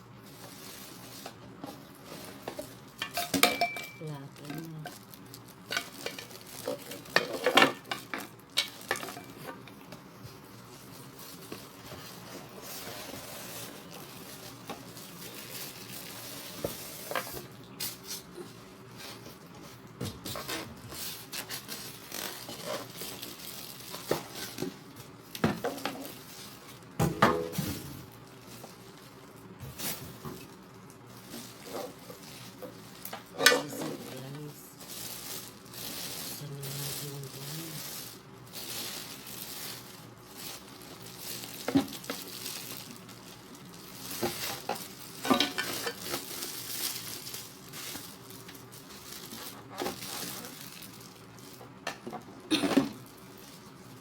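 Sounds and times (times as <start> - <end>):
packaging rustling: 0.2 - 27.0, 27.8 - 54.0.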